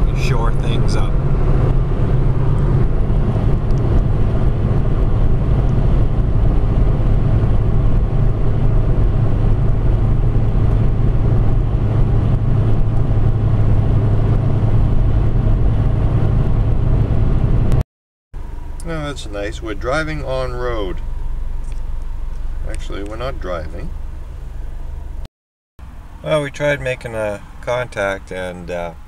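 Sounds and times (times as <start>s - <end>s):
car engine and road noise: 0.0s - 17.8s, 18.4s - 29.0s.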